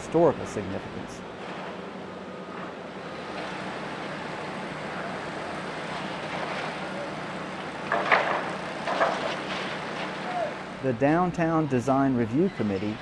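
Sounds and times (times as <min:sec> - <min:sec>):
vehicle or machinery hum: 0:00.0 - 0:13.0.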